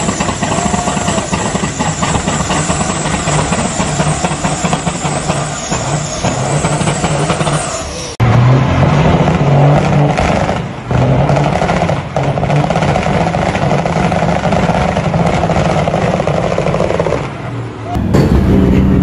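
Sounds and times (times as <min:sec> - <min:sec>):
diesel truck engines revving high: 0:00.0 - 0:19.0.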